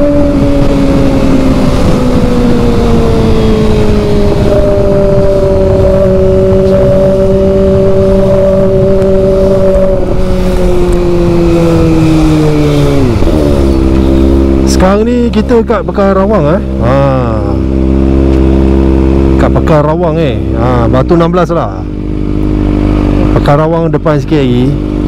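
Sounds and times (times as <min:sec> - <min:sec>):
motorcycle engine decelerating: 0:00.0 - 0:25.0.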